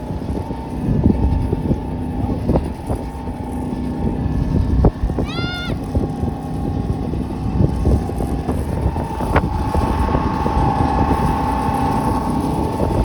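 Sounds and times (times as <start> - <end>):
steady whine: 0.0 - 13.0
wind rumble on microphone: 0.0 - 13.0.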